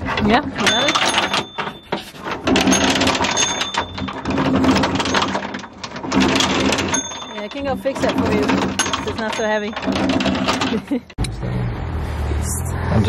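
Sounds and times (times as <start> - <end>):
anchor chain clanking: 0.0 - 11.2.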